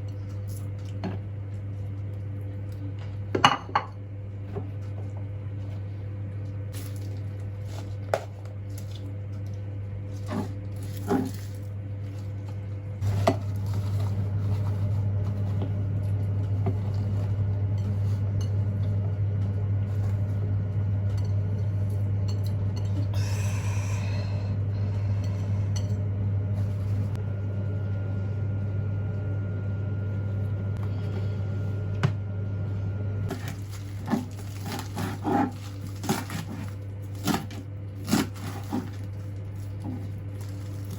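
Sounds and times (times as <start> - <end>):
steady electric hum: 0.0 - 40.9.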